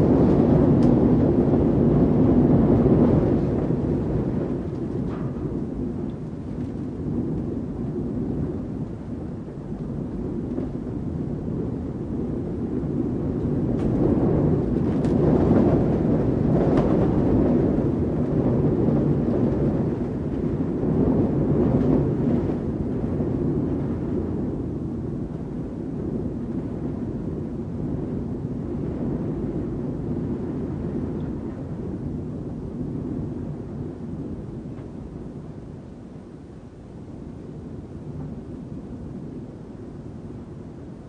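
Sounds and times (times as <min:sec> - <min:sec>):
wind gusting: 0:00.0 - 0:41.0.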